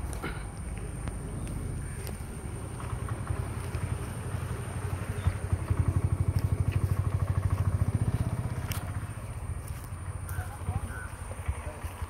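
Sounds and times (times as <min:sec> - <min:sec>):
small engine pulsing: 0:00.8 - 0:12.0.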